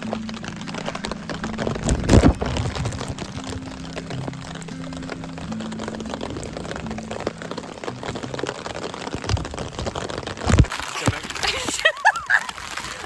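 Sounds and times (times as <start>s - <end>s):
raindrops pattering on plastic bag: 0.0s - 13.0s.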